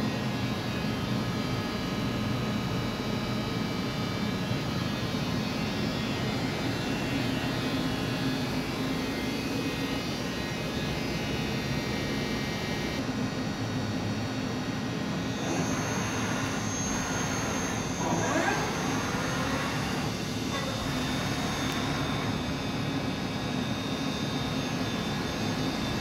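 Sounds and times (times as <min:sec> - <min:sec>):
high steady whine: 0:00.0 - 0:26.0
machine hum: 0:00.0 - 0:26.0.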